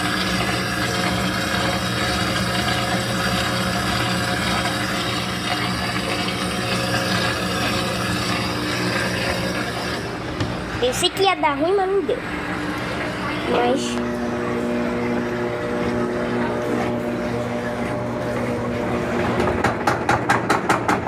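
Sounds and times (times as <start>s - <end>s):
water noise: 0.0s - 19.4s
washing machine motor hum: 0.0s - 21.0s.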